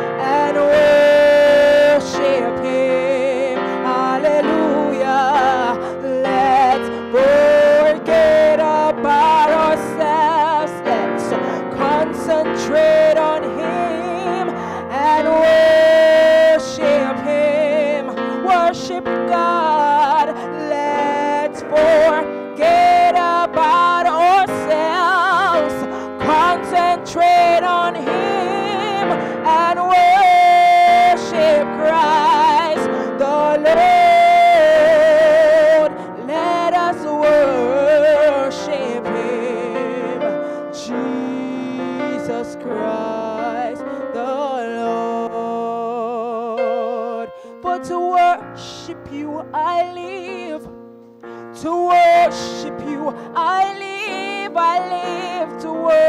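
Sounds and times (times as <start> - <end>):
piano keyboard chords: 0.0 - 56.0
woman singing gospel song: 0.0 - 56.0.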